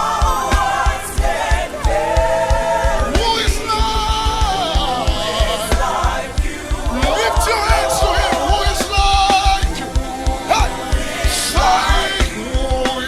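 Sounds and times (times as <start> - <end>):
band playing: 0.0 - 13.0
kick drum beat: 0.0 - 13.0
voices singing long notes: 0.0 - 13.0.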